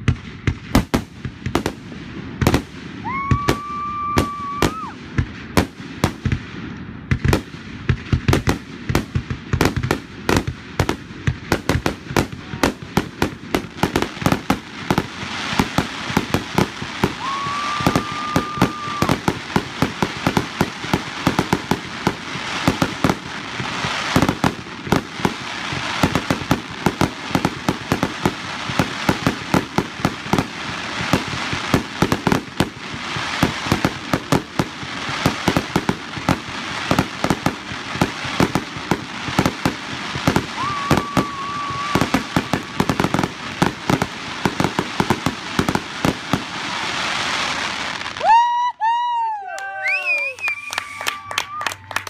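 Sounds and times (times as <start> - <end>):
fireworks bangs: 0.0 - 48.7
fireworks crackling: 0.0 - 49.2, 49.8 - 52.0.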